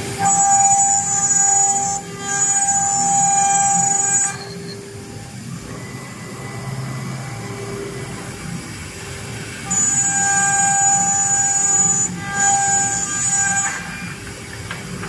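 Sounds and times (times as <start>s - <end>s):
router spindles high-pitched whine: 0.0s - 14.8s
low rough mechanical noise: 0.0s - 15.0s.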